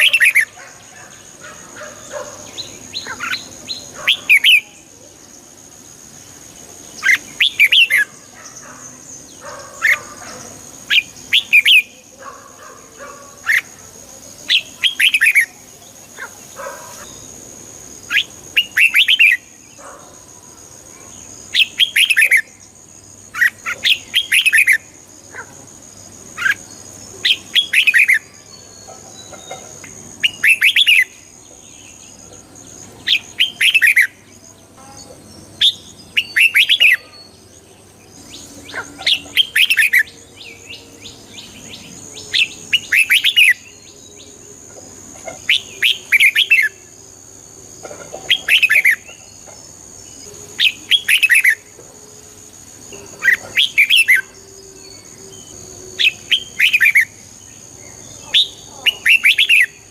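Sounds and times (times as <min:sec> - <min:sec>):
bulbul singing warbled phrases: 0:00.0 - 0:47.4, 0:48.1 - 0:51.8, 0:52.4 - 0:59.9.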